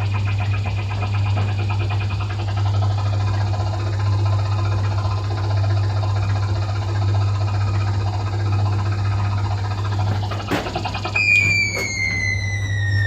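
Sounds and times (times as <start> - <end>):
ride motor humming: 0.0 - 13.0.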